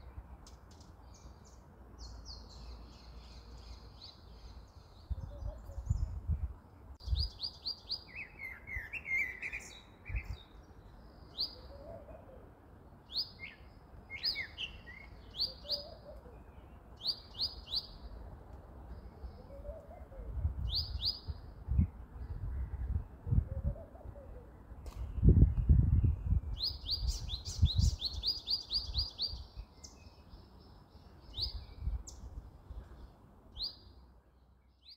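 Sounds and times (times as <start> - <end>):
small birds chirping: 0.0 - 18.2, 18.8 - 34.9.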